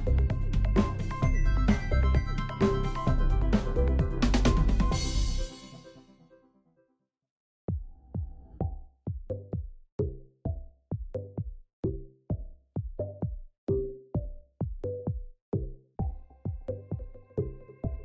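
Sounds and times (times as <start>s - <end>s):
electronic music with bass: 0.0s - 6.1s, 8.5s - 18.0s.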